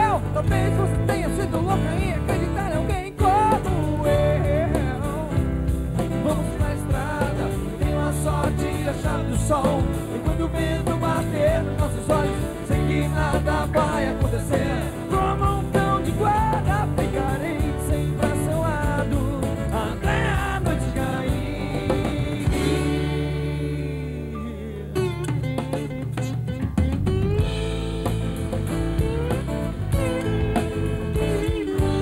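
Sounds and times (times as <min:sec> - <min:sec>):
person singing: 0:00.0 - 0:26.0, 0:30.0 - 0:32.0
acoustic bass guitar: 0:00.0 - 0:32.0
drums: 0:00.0 - 0:32.0
strummed acoustic guitars: 0:00.0 - 0:32.0.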